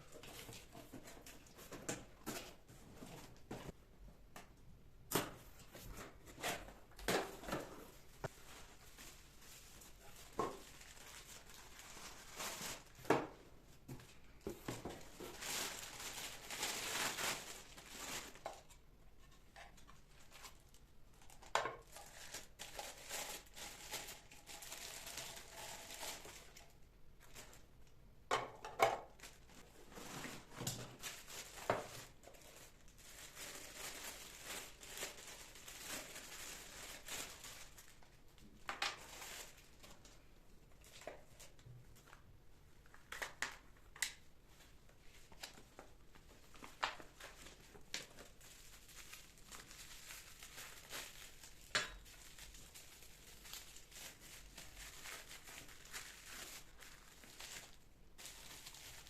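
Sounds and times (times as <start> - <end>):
packaging crinkling and rustling: 5.5 - 13.4, 14.0 - 27.7, 29.1 - 42.2, 42.8 - 59.0.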